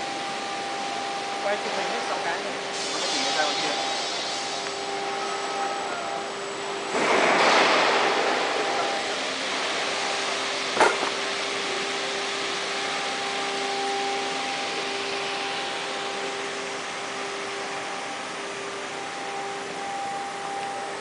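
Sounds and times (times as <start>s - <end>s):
machine mechanical hum: 0.0s - 21.0s.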